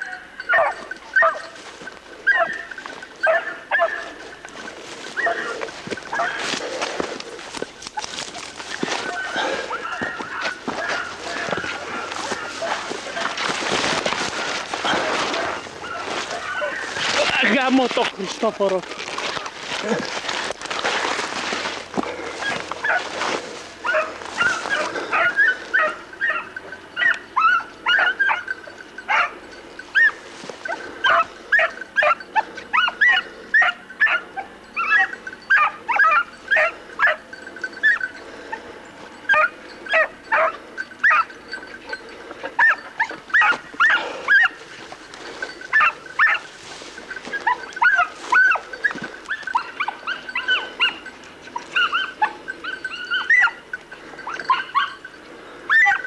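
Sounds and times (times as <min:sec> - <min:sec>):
beagle baying in high yelps: 0:00.0 - 0:06.6, 0:08.0 - 0:13.7, 0:14.5 - 0:17.4, 0:22.4 - 0:23.1, 0:23.8 - 0:56.0.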